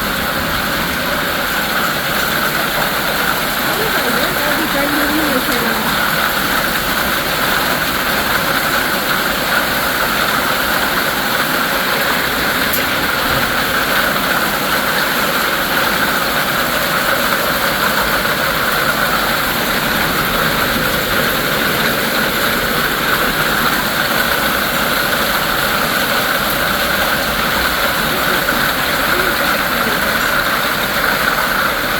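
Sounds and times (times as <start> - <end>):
heavy hail falling: 0.0 - 31.9.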